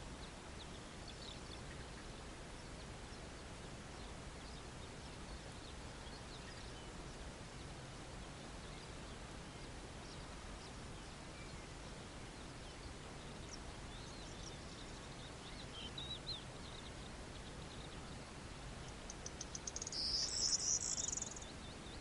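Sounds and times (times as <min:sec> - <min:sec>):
distant small birds chirping: 0:00.0 - 0:22.0
outdoor background hiss: 0:00.0 - 0:22.0.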